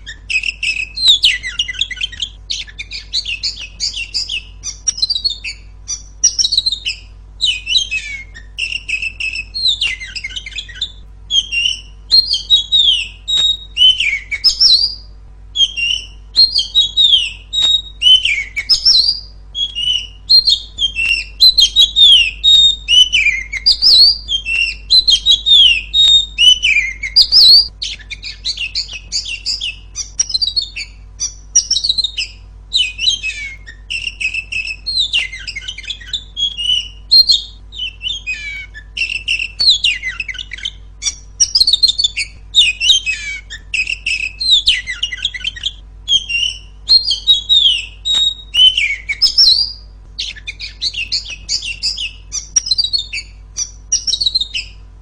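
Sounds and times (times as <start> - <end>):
bird singing whistles and chatter: 0.0 - 54.9.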